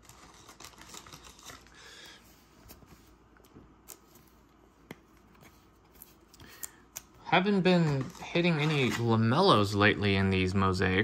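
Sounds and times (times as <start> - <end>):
trading cards rustling and clicking: 0.0 - 2.0, 2.6 - 9.4.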